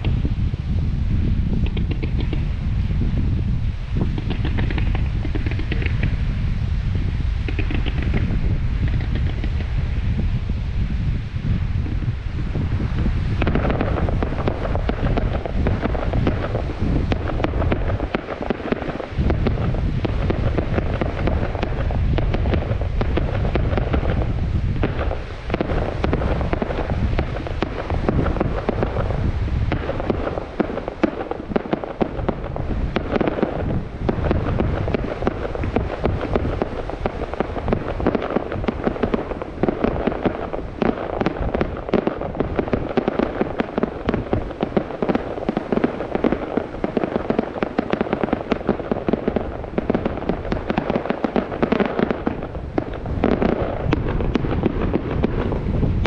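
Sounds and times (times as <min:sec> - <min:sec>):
fireworks booming: 0:00.0 - 0:56.0
fireworks crackling: 0:00.0 - 0:56.0.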